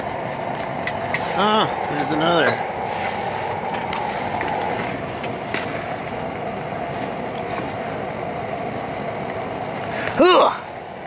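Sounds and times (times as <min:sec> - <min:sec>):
gas heater burner hissing: 0:00.0 - 0:11.0.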